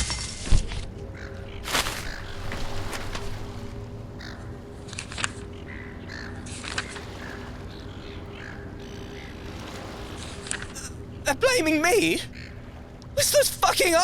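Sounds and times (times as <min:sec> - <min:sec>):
birds calling: 0:00.9 - 0:14.0.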